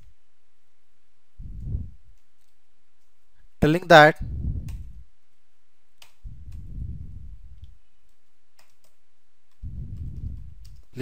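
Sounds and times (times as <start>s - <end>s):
soft low rumbles: 0.0s - 3.4s, 4.2s - 8.8s, 9.4s - 11.0s.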